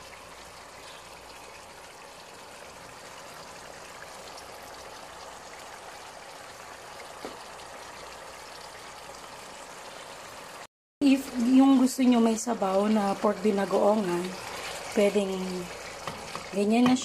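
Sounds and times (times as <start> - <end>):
sauce bubbling in a pan: 0.0 - 17.0.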